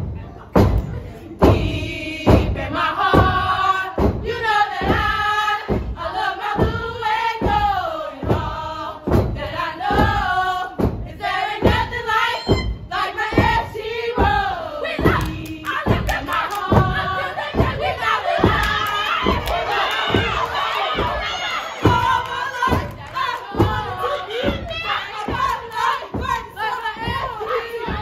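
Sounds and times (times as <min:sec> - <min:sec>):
heavy stomps: 0:00.0 - 0:28.0
women chanting in unison: 0:00.0 - 0:28.0.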